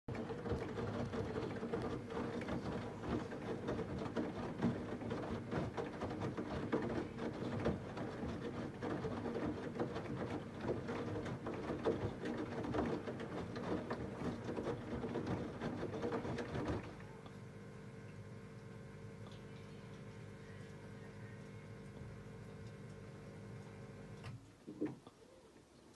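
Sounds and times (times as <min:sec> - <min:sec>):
washing machine motor hum: 0:00.0 - 0:25.7.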